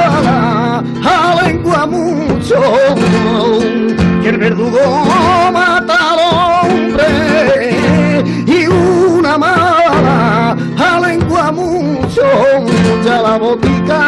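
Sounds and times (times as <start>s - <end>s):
acoustic guitar accompaniment: 0.0s - 14.0s
man singing with vibrato: 0.0s - 14.0s.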